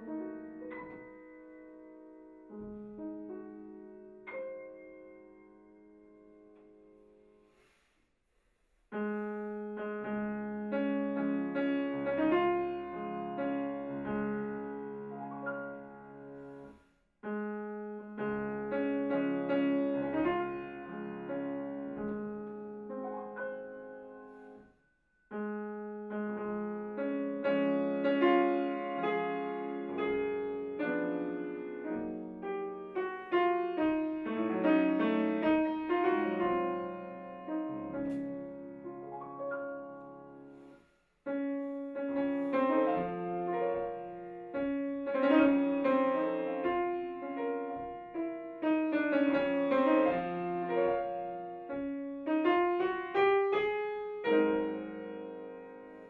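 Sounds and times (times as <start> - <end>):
solo grand piano classical music: 0.0 - 8.0, 8.9 - 56.0.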